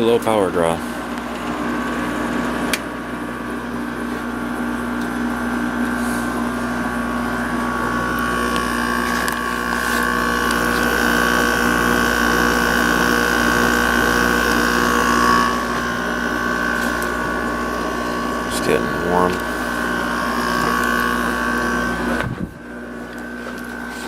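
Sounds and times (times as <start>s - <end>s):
air conditioner fan rush: 0.0s - 24.0s
compressor hum: 0.0s - 24.0s
high steady whine: 0.0s - 24.0s.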